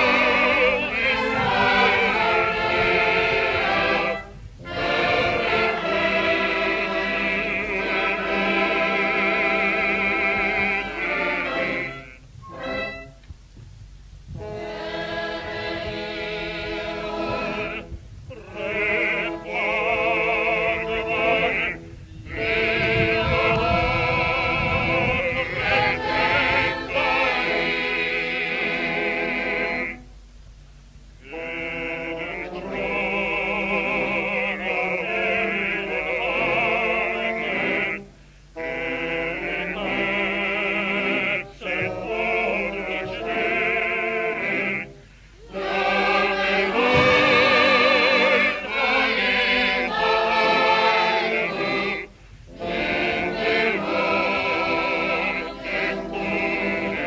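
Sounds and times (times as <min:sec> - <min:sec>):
operatic hymn singing: 0:00.0 - 0:13.1, 0:14.3 - 0:30.1, 0:31.2 - 0:57.0.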